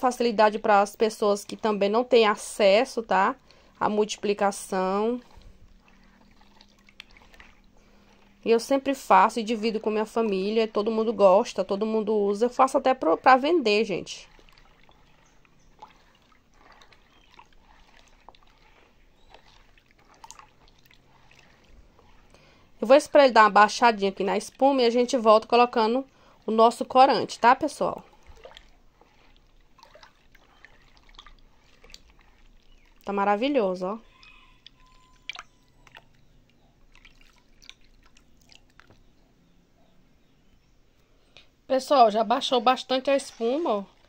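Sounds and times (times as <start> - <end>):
liquid swishing in plastic basin: 0.0 - 39.2, 42.0 - 44.0.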